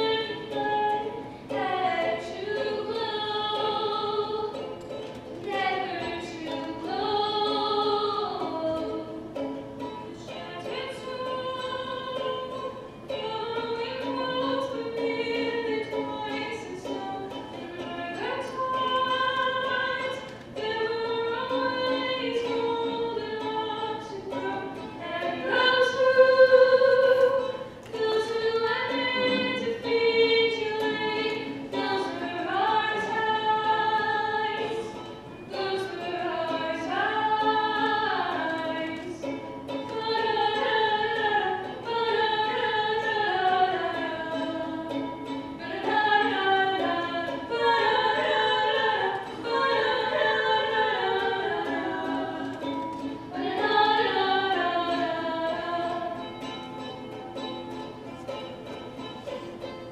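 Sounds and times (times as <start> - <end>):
woman singing: 0.0 - 9.5, 10.2 - 56.9
ukulele: 0.0 - 59.9.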